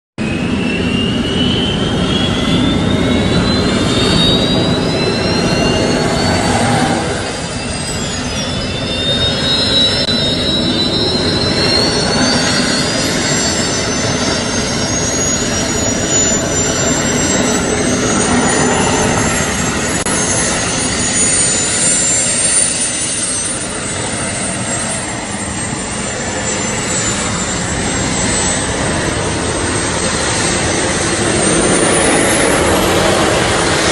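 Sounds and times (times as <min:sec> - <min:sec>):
high engine whine: 0:00.2 - 0:33.9
jet engine roaring: 0:00.2 - 0:33.9.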